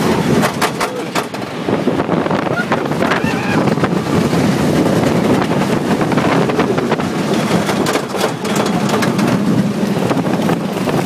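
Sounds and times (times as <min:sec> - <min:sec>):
roller coaster train rattling: 0:00.0 - 0:11.0
wind buffeting microphone: 0:00.0 - 0:11.0.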